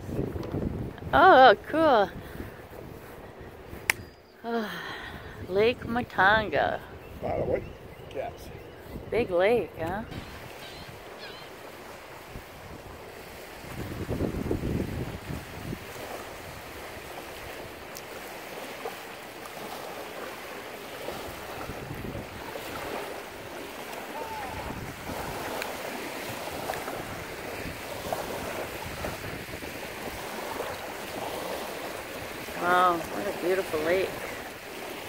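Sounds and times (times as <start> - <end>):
wind rumbling on microphone: 0.0 - 20.3, 20.9 - 35.0
small waves lapping at shore: 0.0 - 35.0
wind blowing: 0.0 - 35.0.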